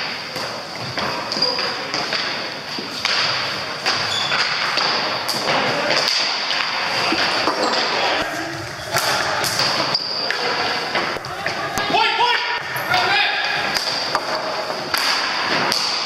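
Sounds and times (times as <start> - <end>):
indistinct voices: 3.0 - 16.0.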